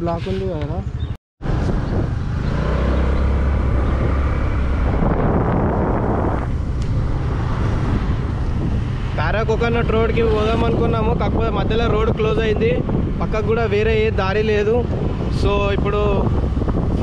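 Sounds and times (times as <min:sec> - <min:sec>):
wind on microphone: 0:01.4 - 0:17.0.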